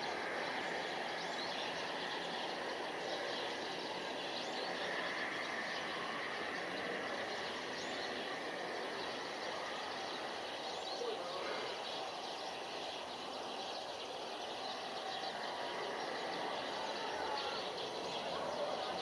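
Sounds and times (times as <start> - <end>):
city background noise: 0.0 - 19.0
faint bird chirps: 0.0 - 19.0.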